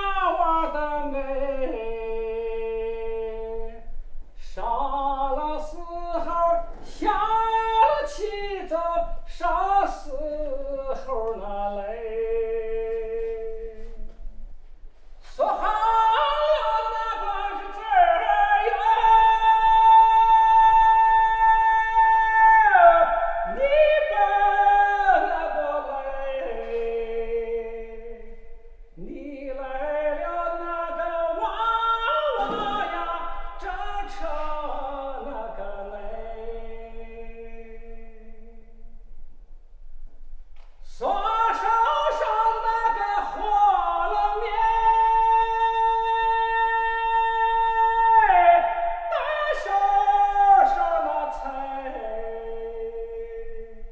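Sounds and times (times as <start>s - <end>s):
person singing folk song: 0.0s - 14.2s, 15.2s - 38.7s, 40.6s - 53.9s.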